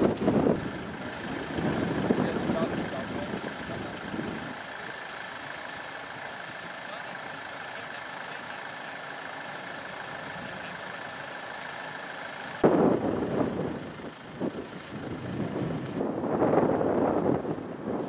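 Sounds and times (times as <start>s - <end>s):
distant motorway traffic rushing: 0.0s - 18.0s.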